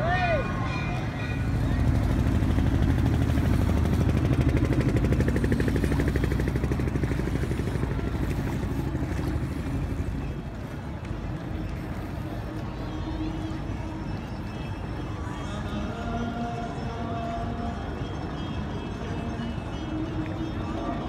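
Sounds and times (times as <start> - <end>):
motorboat engine pulsing: 0.9 - 21.0.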